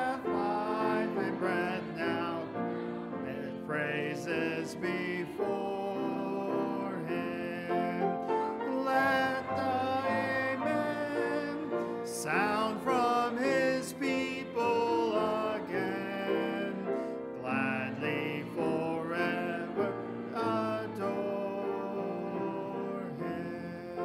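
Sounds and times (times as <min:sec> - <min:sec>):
hymn singing: 0:00.0 - 0:24.0.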